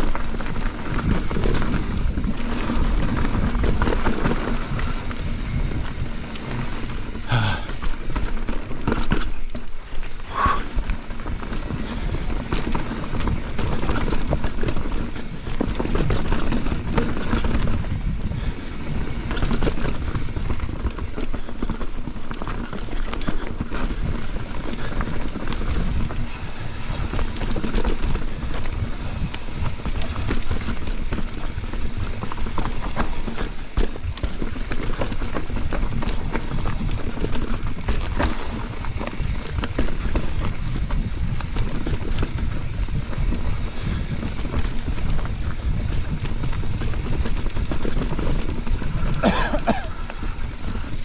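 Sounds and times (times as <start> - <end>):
bike rattling and clattering: 0.0 - 51.0
tyres rumbling over ground: 0.1 - 51.0.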